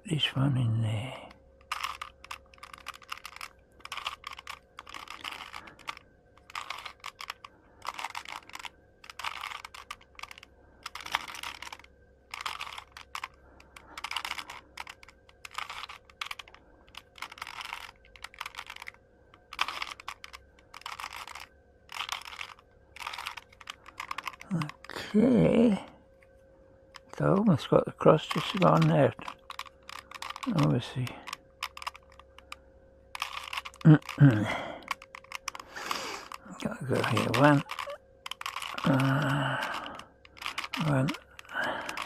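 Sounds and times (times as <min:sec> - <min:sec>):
plastic puzzle cube clicking: 0:01.6 - 0:25.0, 0:28.2 - 0:42.0.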